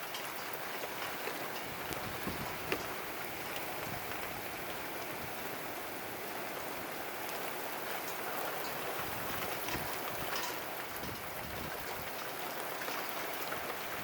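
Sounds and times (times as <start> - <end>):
heavy rain falling: 0.0 - 14.0
raindrops pattering: 0.0 - 14.0.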